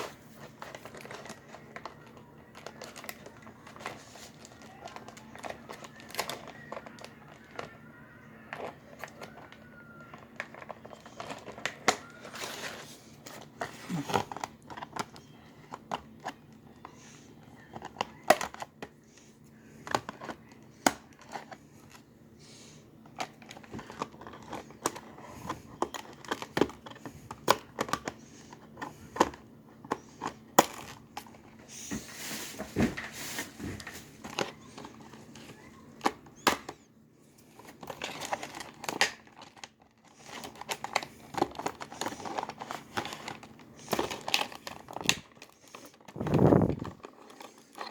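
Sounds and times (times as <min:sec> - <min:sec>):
plastic and cardboard crinkling: 0:00.0 - 0:47.9.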